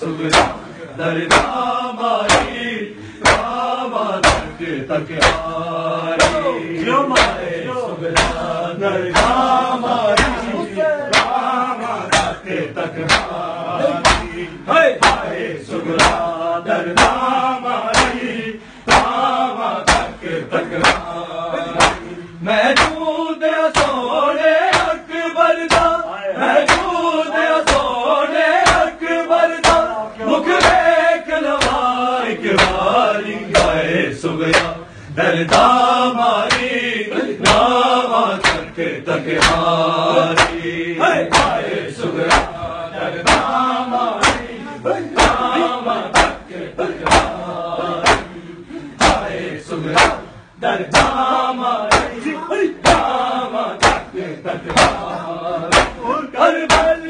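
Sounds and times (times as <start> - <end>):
men chanting in unison: 0.0 - 57.0
chest beating slaps: 0.2 - 3.6, 4.2 - 18.3, 18.9 - 24.0, 24.6 - 25.0, 25.6 - 26.0, 26.6 - 27.0, 27.6 - 29.0, 29.6 - 31.9, 32.5 - 33.8, 34.4 - 34.8, 35.5 - 36.8, 37.4 - 57.0.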